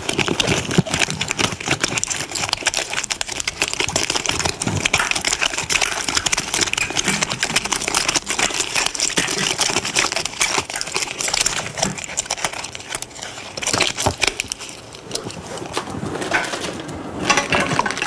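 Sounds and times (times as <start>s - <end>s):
packaging crumpled by hand: 0.0s - 16.9s.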